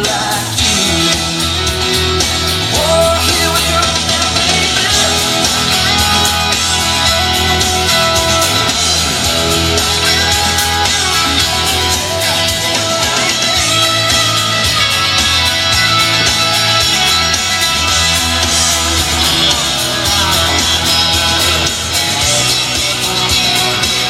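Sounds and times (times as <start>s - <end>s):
guitar rock music with drums: 0.0s - 24.0s.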